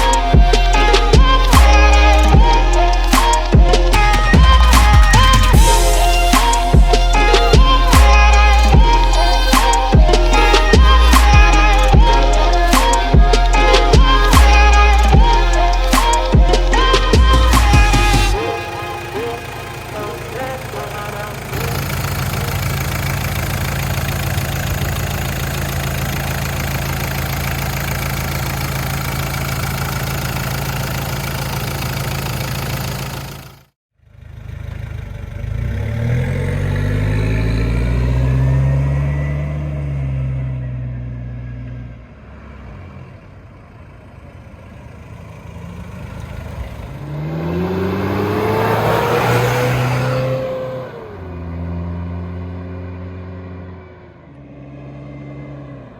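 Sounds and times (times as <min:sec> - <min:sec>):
diesel engine running: 0:00.0 - 0:41.5, 0:43.1 - 0:55.9.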